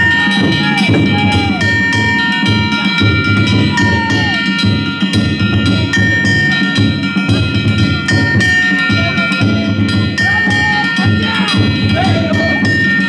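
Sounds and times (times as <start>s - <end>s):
metal gongs ringing: 0.0s - 13.0s
taiko drum beating: 0.0s - 13.0s.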